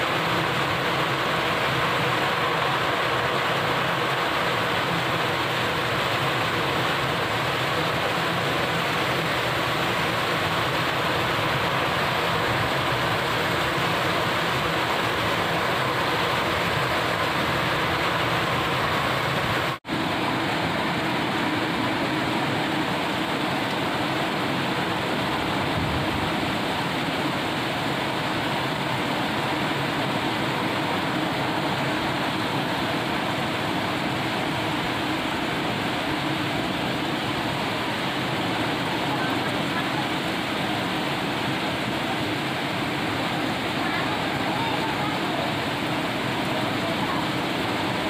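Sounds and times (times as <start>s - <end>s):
heavy rain on water: 0.0s - 48.0s.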